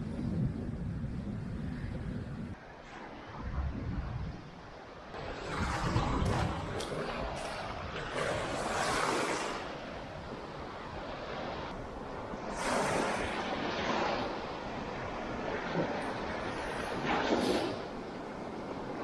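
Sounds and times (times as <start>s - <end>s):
small waves washing up beach: 2.6s - 19.0s.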